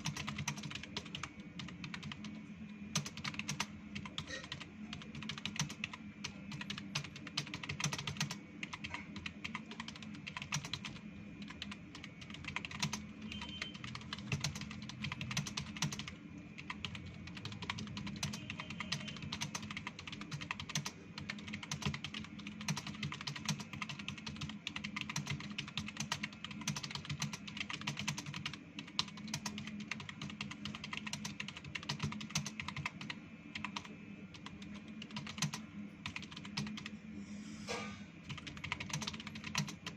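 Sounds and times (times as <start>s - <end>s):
typing on computer keyboard: 0.0s - 36.9s, 38.2s - 39.9s.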